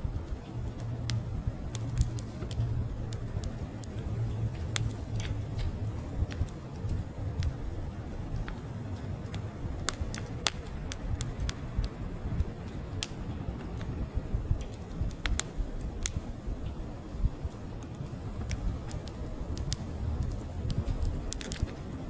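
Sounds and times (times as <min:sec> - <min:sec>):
fire pops and snaps: 0:00.0 - 0:22.0
low steady rumble: 0:00.0 - 0:22.0
wood fire crackling: 0:00.0 - 0:22.0.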